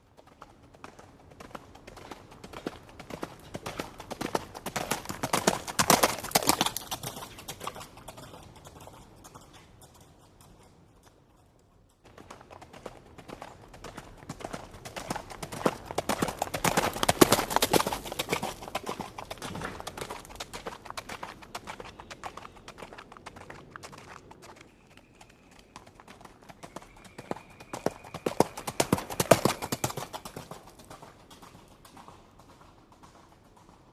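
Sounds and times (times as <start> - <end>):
horse hooves clip-clopping: 0.0 - 33.9.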